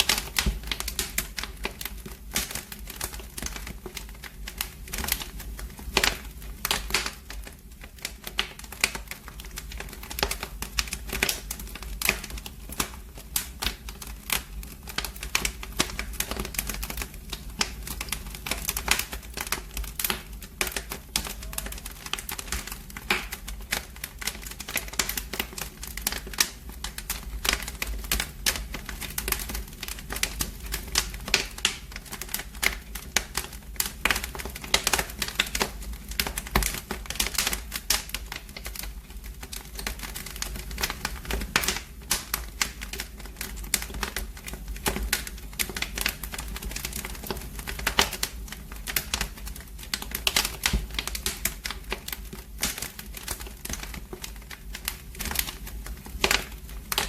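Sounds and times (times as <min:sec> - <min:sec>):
fire low rumble: 0:00.0 - 0:57.0
fireplace wood fire crackling: 0:00.0 - 0:57.0.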